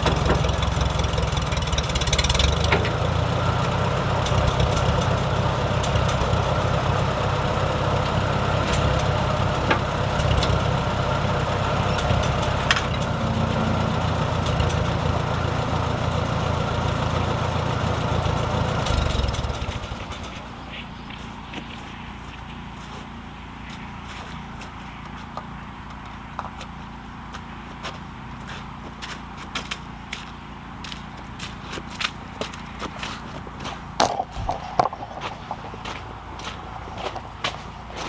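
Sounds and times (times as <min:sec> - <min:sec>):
loader engine running: 0:00.0 - 0:38.0.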